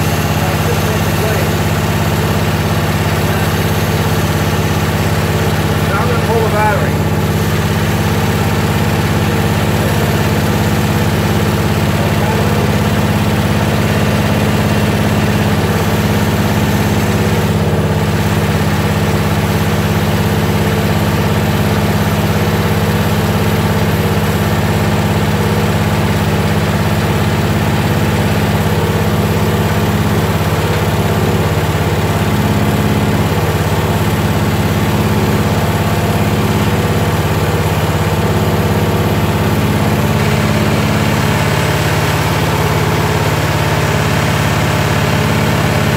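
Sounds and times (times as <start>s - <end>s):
lawn tractor engine running: 0.0s - 45.9s.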